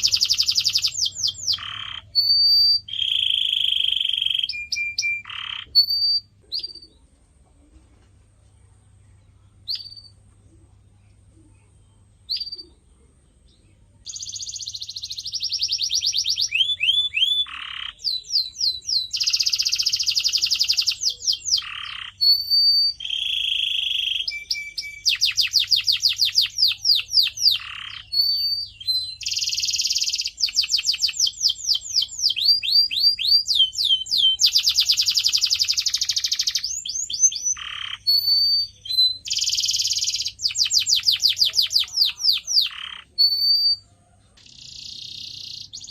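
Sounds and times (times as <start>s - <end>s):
canary singing: 0.0s - 7.4s, 8.8s - 45.9s.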